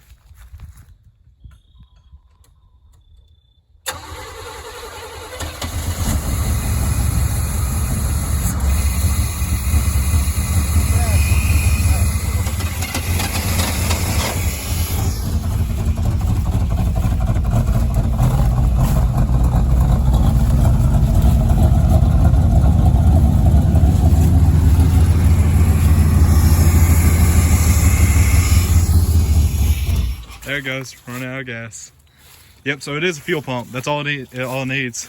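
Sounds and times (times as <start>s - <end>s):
truck engine rumbling: 3.8s - 35.0s.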